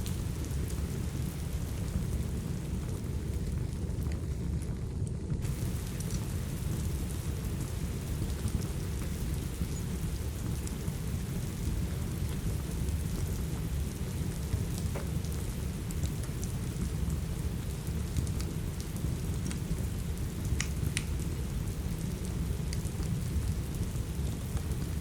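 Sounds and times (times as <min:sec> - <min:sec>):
fireplace crackling and popping: 0:00.0 - 0:25.0
steady rain: 0:00.0 - 0:25.0.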